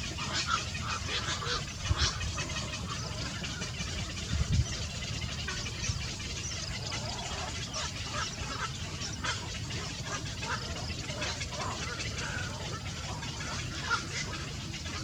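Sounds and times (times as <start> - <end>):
small birds peeping and chirping: 0.0 - 15.0.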